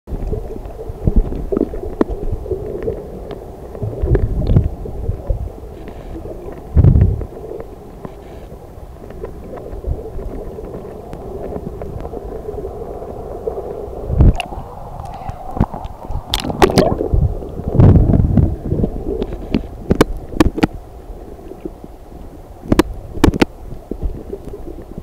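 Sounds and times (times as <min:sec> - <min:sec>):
muffled underwater rumble: 0:00.1 - 0:25.0.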